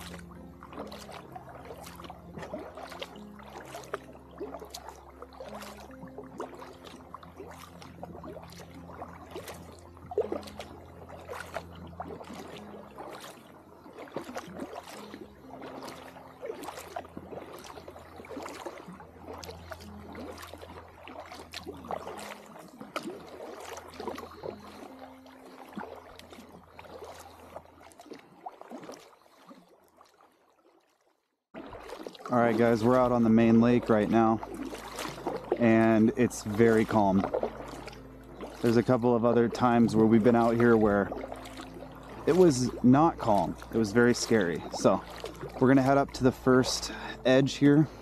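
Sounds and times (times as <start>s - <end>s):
paddle splashing in water: 0.0s - 48.0s
water trickling: 0.0s - 48.0s.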